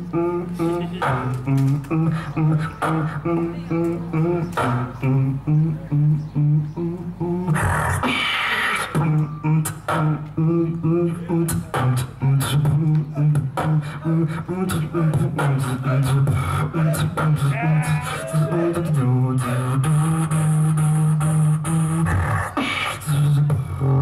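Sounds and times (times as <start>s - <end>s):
beatboxing through microphone: 0.0s - 24.0s.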